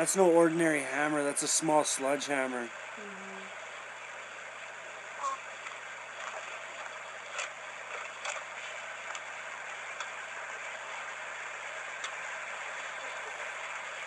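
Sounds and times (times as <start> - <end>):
microphone hiss and hum: 0.0 - 14.0.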